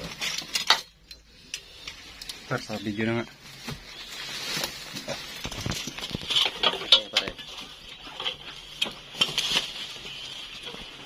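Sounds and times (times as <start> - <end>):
rustling in dry leaves: 2.0 - 11.0.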